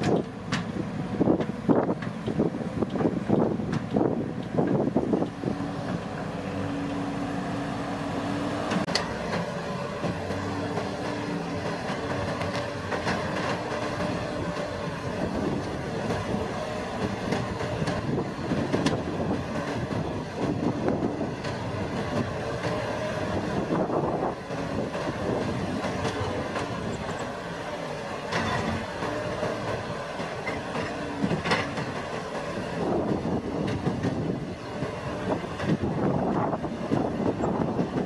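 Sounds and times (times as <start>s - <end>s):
harvesting machine engine drone: 0.0s - 38.0s.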